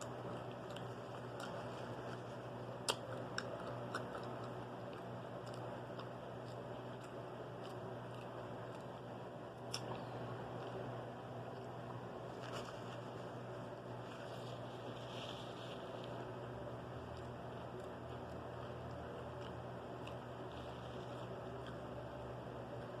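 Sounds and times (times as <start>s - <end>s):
close chewing with crunchy clicks: 0.0s - 23.0s
steady low hum: 0.0s - 23.0s.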